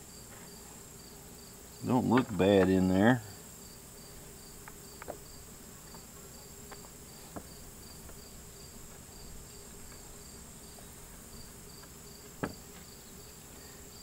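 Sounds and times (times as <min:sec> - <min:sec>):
cricket chirping: 0:00.0 - 0:14.0
faint high buzz: 0:00.0 - 0:14.0.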